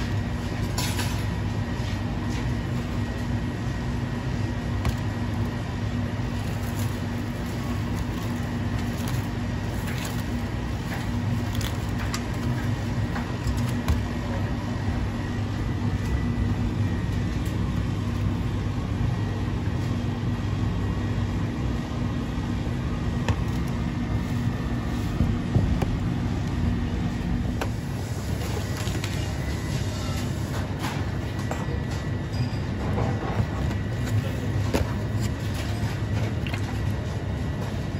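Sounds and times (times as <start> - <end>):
low background hum: 0.0 - 37.9.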